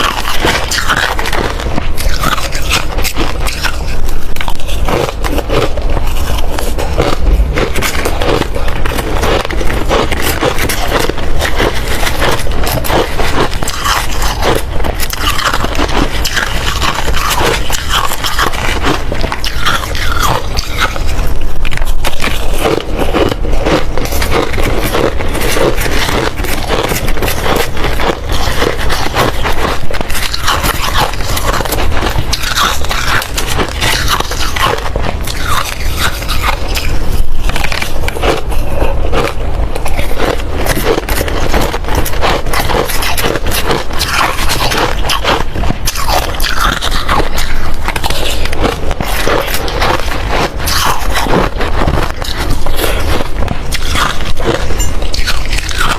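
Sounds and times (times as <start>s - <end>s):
person chewing hard ice: 0.0s - 55.9s.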